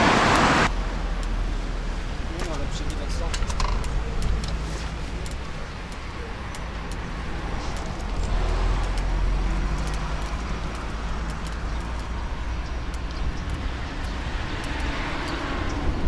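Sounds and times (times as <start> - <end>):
cars passing with engine rumble: 0.0 - 16.0.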